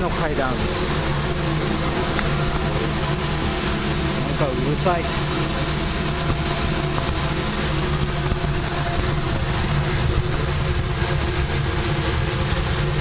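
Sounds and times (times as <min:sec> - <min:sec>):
ferry machinery drone: 0:00.0 - 0:13.0.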